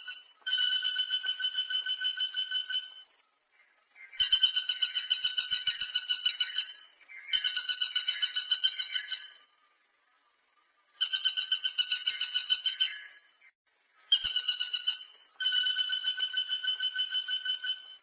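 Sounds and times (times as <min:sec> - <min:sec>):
woodpecker chattering call: 0:00.0 - 0:09.5, 0:11.0 - 0:13.5, 0:14.1 - 0:18.0.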